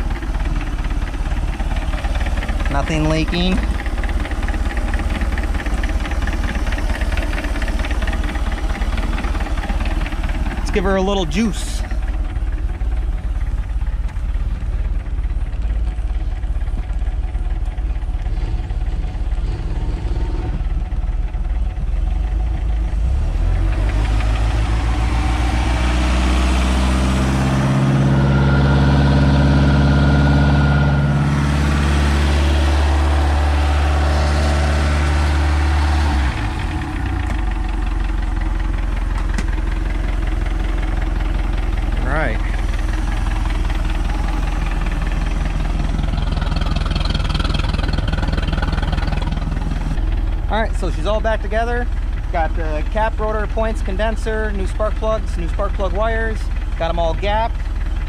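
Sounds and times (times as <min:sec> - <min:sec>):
boat engine idling and revving: 0:00.0 - 0:58.0.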